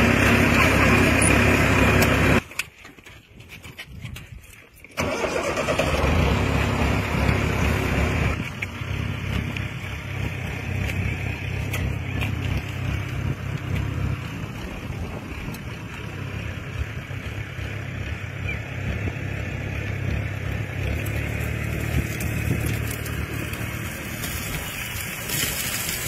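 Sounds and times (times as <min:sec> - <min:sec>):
tractor engine running: 0:00.0 - 0:02.6, 0:05.0 - 0:26.0.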